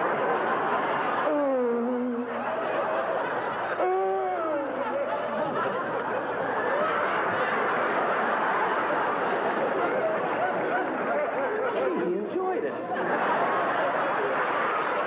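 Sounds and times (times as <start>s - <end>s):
audience laughing: 0.0s - 15.0s.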